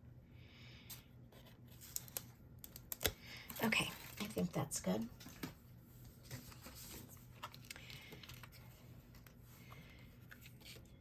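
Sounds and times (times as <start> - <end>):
low steady hum: 0.0 - 11.0
paper and card rustling: 1.4 - 11.0.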